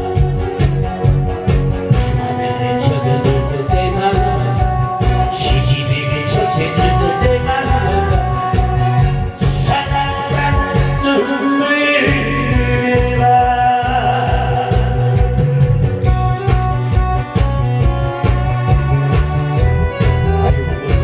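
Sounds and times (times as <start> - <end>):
loud amplified music: 0.0 - 21.0.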